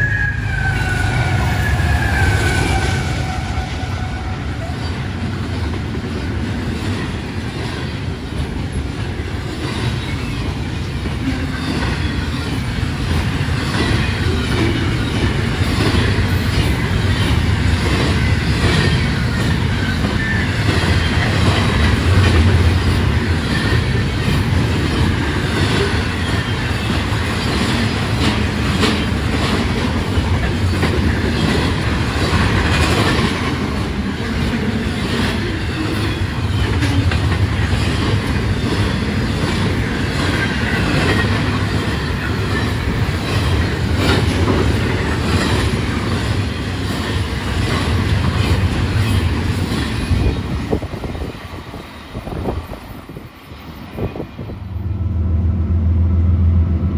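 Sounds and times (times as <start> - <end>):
freight train rumbling past: 0.0 - 56.9
train wheels clickety-clack: 0.6 - 55.3.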